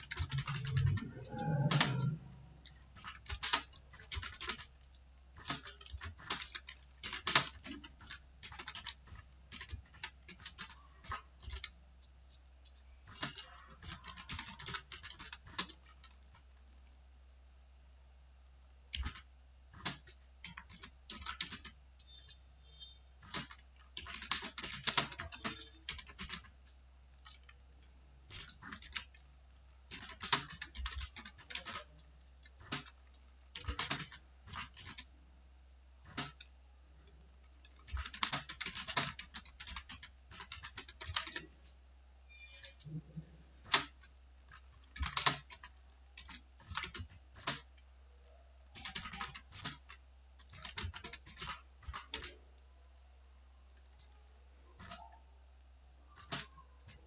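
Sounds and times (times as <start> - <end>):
computer keyboard typing: 0.0 - 16.7, 18.9 - 29.3, 29.9 - 35.1, 36.0 - 41.6, 42.3 - 47.9, 48.7 - 52.4, 54.8 - 55.2, 56.1 - 57.0.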